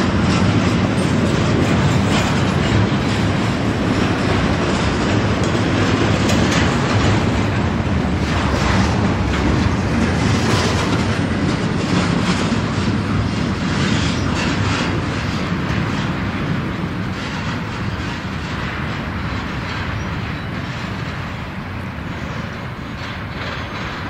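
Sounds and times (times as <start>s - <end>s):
freight train wheels clattering: 0.0s - 24.0s.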